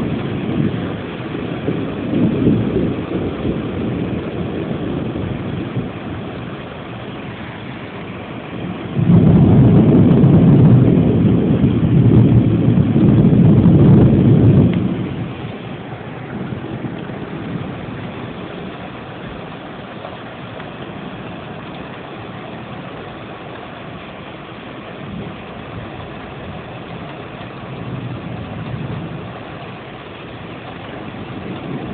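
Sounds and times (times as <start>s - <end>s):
rain hiss: 0.0s - 31.9s
thunder rumbling: 0.0s - 31.9s.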